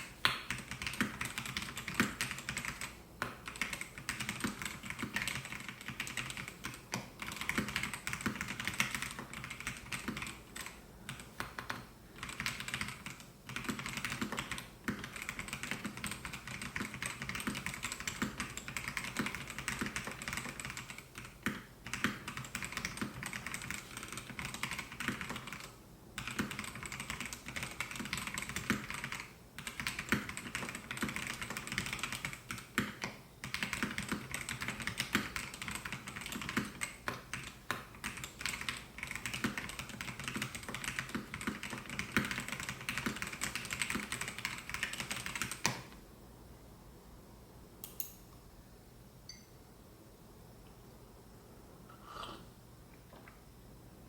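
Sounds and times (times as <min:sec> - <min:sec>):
mechanical keyboard typing: 0:00.0 - 0:45.8.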